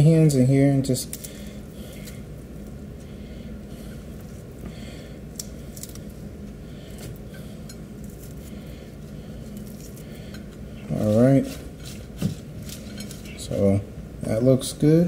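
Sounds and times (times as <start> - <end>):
bacon crackling: 0.0 - 13.8
steady low hum: 0.0 - 15.0.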